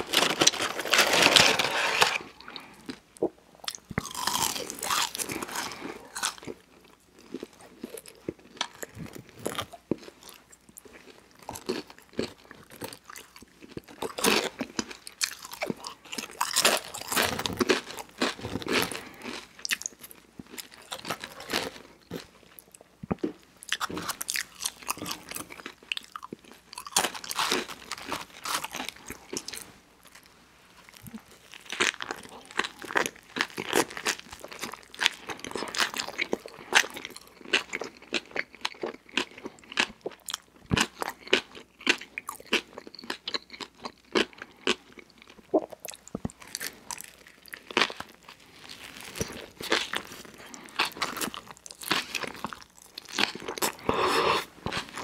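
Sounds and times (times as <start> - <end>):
person chewing crunchy food: 0.0 - 55.0.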